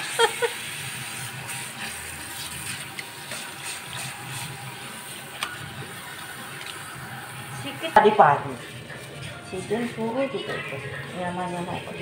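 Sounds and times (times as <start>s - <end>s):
shower head spraying water on hair: 0.0s - 12.0s.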